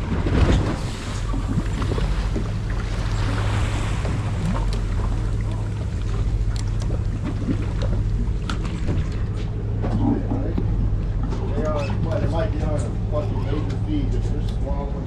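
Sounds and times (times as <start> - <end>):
boat engine idling: 0.0 - 15.0
water washing against hull: 0.0 - 15.0.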